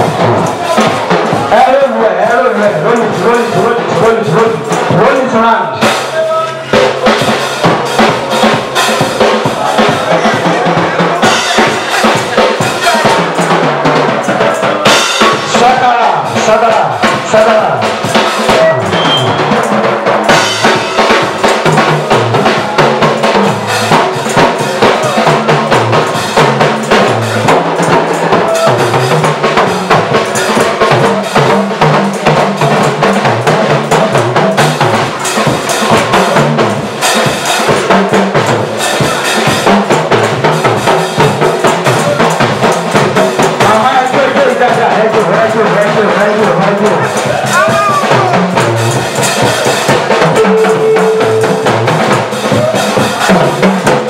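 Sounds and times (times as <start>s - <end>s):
bass line: 0.0s - 54.0s
drum kit playing fast beat: 0.0s - 54.0s.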